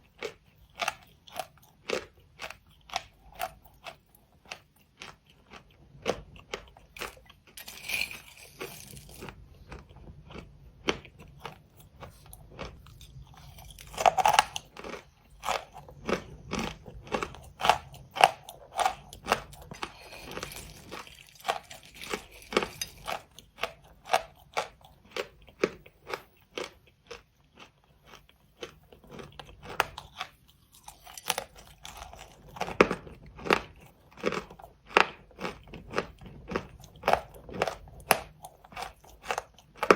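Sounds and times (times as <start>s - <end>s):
crunchy chewing and biting: 0.0s - 39.9s.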